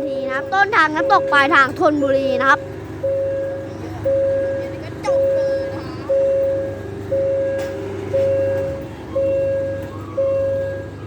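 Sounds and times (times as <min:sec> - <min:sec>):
level-crossing warning bell ringing: 0:00.0 - 0:11.0
low steady rumble: 0:00.0 - 0:11.0.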